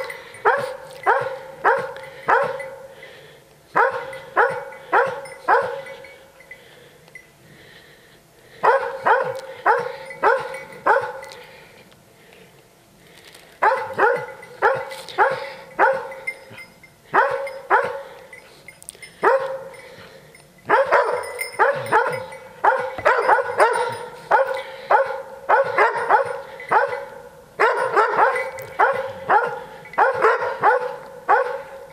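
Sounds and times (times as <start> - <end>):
hounds baying: 0.0 - 7.3, 8.5 - 11.7, 13.6 - 31.9.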